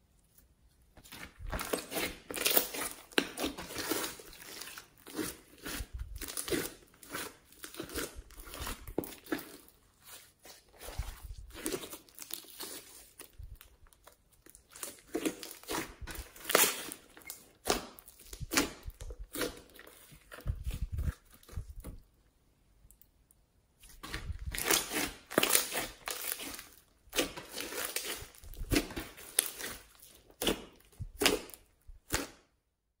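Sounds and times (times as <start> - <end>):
slime crackling and popping: 1.1 - 10.2, 10.8 - 22.0, 23.9 - 32.5.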